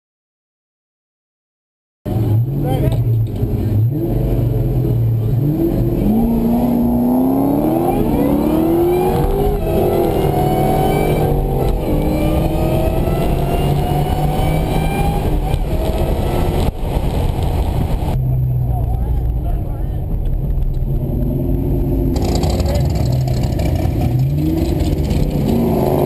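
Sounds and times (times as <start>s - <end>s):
car engine accelerating through gears: 2.1s - 26.0s.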